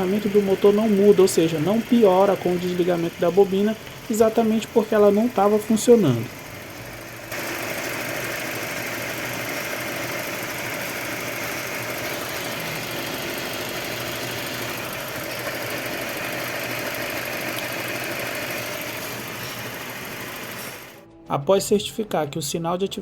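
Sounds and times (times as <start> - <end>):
car engine idling misfiring: 0.0 - 21.0.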